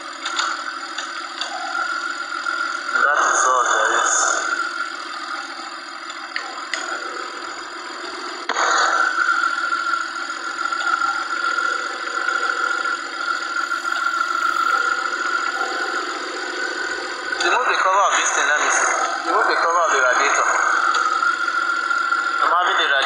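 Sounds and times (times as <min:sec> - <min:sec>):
petrol engine running: 0:00.0 - 0:23.0.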